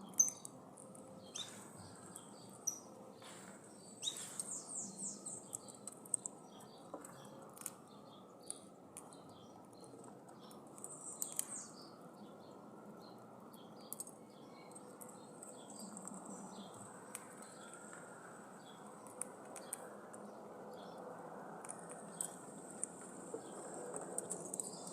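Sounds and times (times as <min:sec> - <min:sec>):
birds chirping: 0:00.0 - 0:21.0, 0:21.7 - 0:24.9
steady outdoor hiss: 0:00.0 - 0:24.9.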